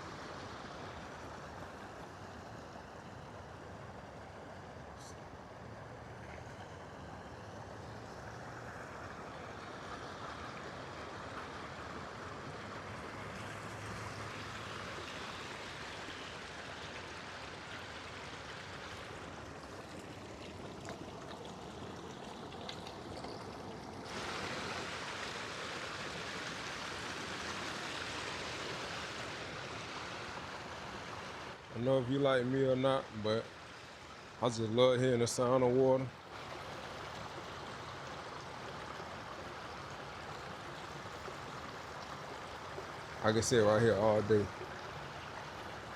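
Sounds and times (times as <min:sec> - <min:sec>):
rushing stream water: 0:00.0 - 0:45.9.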